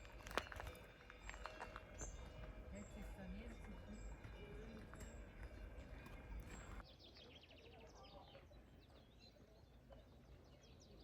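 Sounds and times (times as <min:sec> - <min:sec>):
faint outdoor ambience: 0:00.0 - 0:11.0
songbirds chirping and trilling: 0:00.4 - 0:11.0.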